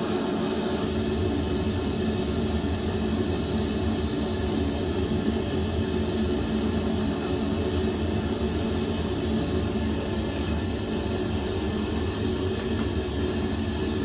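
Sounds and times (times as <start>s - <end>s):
faint constant hum: 0.0s - 14.0s.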